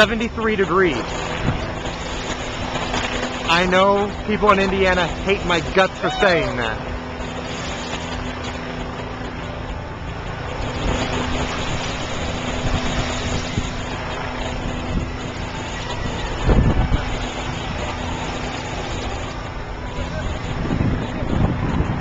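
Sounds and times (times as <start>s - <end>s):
ocean surf rushing: 0.0s - 22.0s
wind buffeting microphone: 0.0s - 22.0s.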